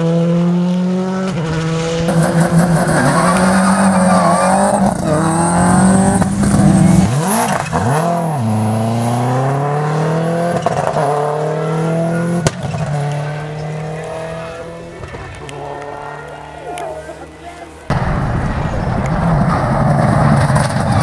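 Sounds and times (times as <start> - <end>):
rally car engine revving: 0.0 - 17.5, 19.2 - 21.0.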